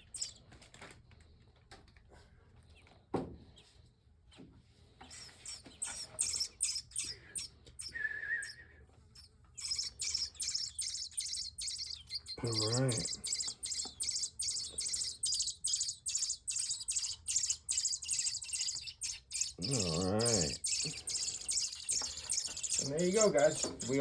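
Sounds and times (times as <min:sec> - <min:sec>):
nestling birds begging chirps: 0:00.0 - 0:00.5, 0:05.0 - 0:24.0.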